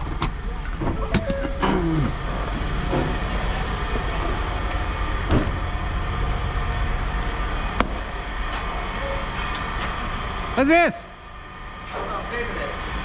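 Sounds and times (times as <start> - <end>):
heavy machinery rumbling: 0.0 - 13.0.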